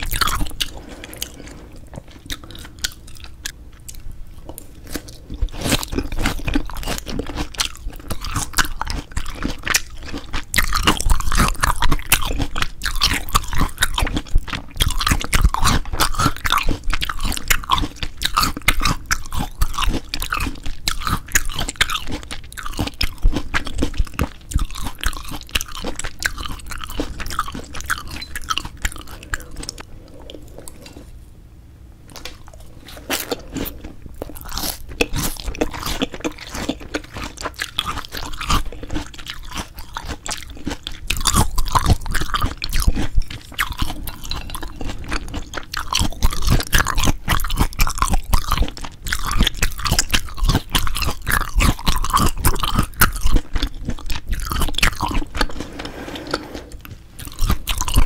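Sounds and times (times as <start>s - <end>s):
wet chewing and mouth sounds: 0.0s - 31.2s, 32.1s - 58.0s.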